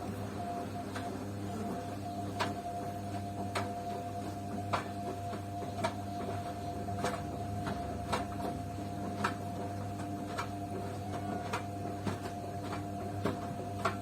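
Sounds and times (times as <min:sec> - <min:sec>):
washing machine motor whine: 0:00.0 - 0:14.0.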